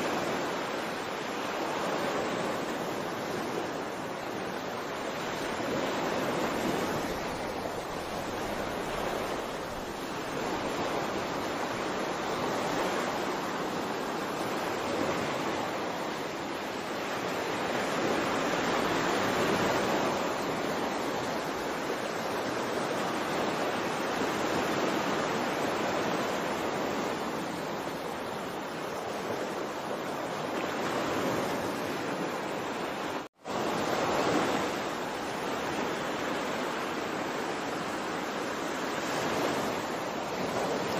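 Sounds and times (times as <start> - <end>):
ocean waves rushing: 0.0 - 40.9.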